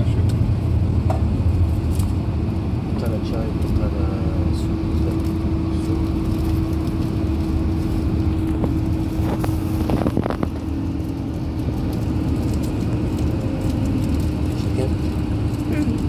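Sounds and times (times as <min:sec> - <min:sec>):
bus engine and road rumble: 0:00.0 - 0:16.0
constant hum: 0:00.0 - 0:16.0.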